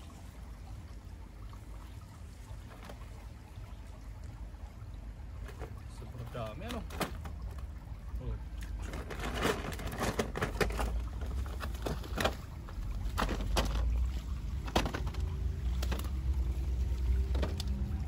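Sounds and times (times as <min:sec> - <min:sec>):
water splashing: 0:00.0 - 0:18.0.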